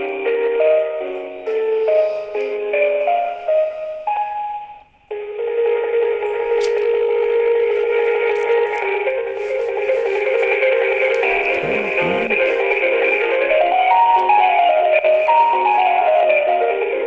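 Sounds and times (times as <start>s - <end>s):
telephone hold music: 0.1s - 17.0s.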